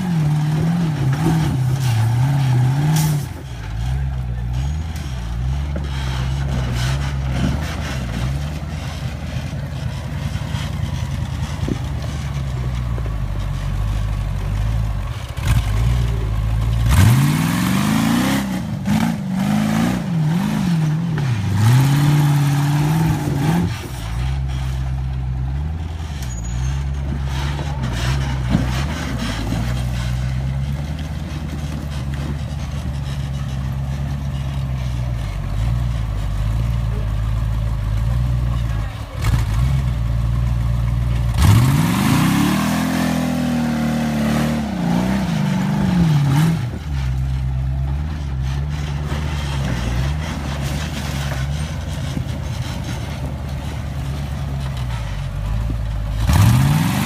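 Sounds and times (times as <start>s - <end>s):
buggy engine revving: 0.0s - 57.0s.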